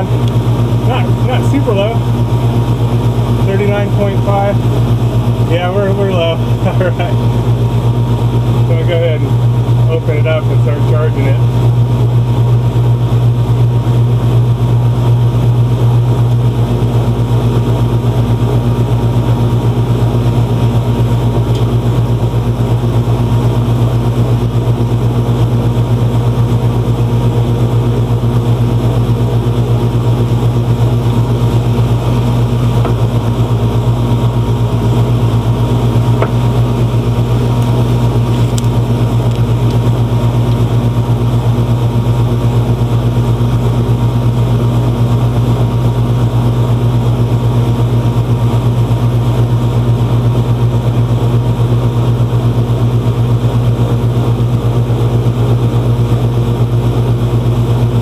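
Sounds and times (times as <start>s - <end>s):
air conditioner unit humming: 0.0s - 58.0s.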